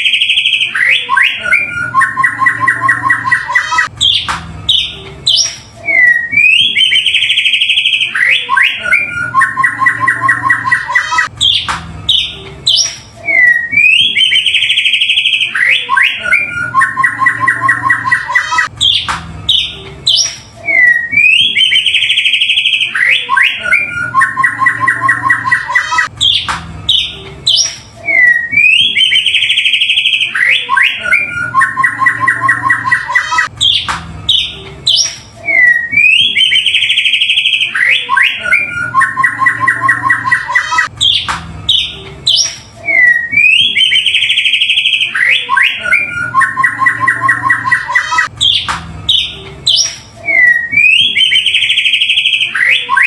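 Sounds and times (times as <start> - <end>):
bird song with buzzy trill: 0.0 - 53.0.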